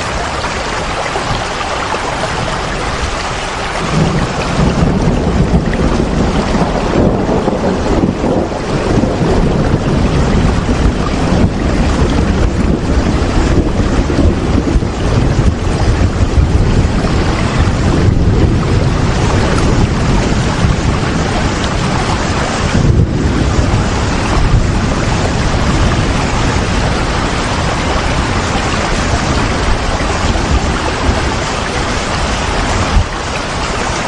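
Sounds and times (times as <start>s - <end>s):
heavy rain with wind: 0.0s - 34.0s.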